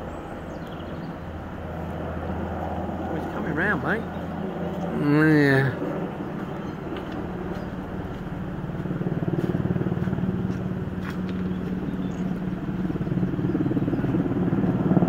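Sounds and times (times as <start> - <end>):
helicopter rotor beat: 0.0 - 15.0
turbine engine drone: 0.0 - 15.0.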